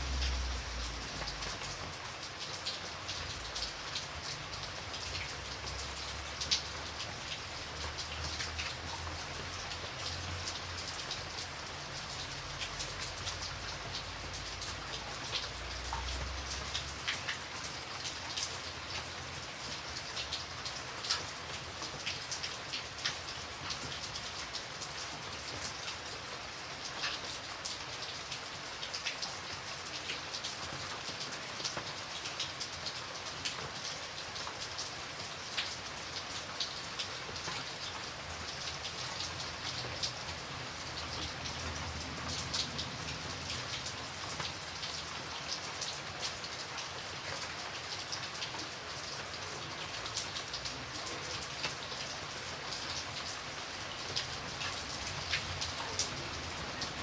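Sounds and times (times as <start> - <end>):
light rain falling: 0.0 - 57.0
raindrops ticking on a surface: 0.0 - 57.0.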